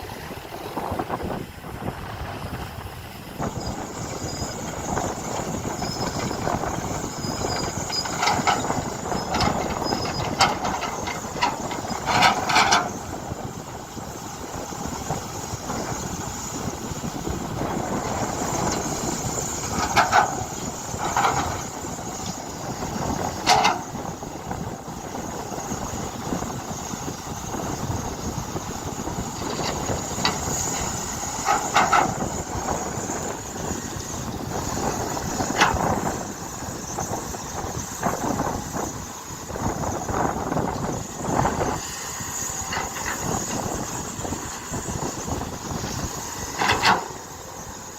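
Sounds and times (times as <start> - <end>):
excavator diesel engine running: 0.0 - 47.9
machine squeals and clanks: 3.4 - 47.9.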